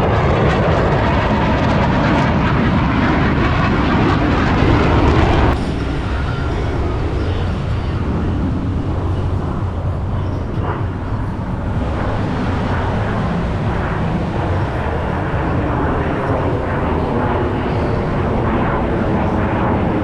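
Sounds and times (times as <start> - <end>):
jet engines in flight: 0.0 - 20.0.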